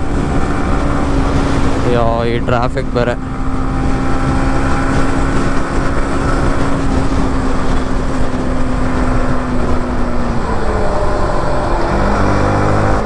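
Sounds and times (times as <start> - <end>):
motorcycle engine running: 0.0 - 13.0
wind rush: 0.0 - 13.0.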